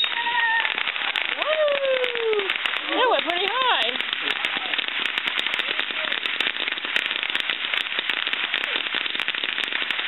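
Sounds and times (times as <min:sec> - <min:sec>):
firework hissing and crackling: 0:00.0 - 0:10.0.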